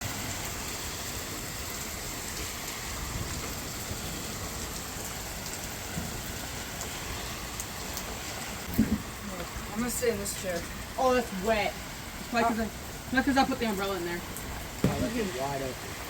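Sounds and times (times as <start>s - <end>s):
raindrops tapping: 0.0s - 16.0s
steady rain: 0.0s - 16.0s.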